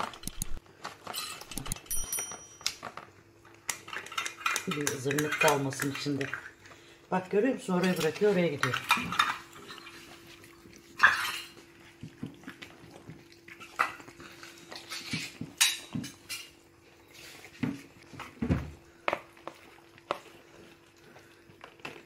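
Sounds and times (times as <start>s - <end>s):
cats chewing and lapping: 0.0s - 22.0s.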